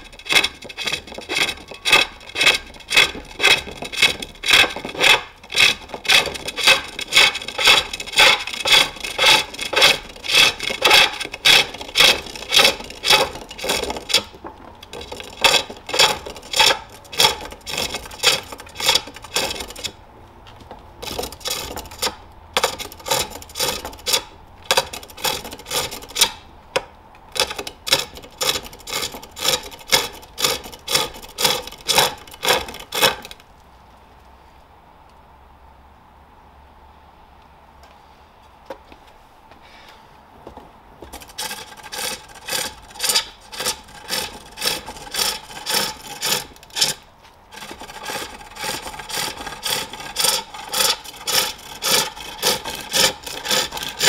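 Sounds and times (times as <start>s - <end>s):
hook tool scraping wood on lathe: 0.0s - 20.0s, 20.6s - 26.4s, 27.3s - 33.4s, 41.0s - 54.0s.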